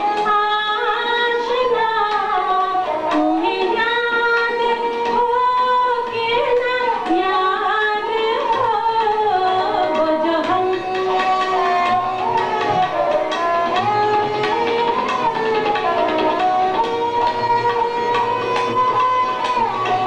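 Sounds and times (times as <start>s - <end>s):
harmonium accompaniment: 0.0s - 20.0s.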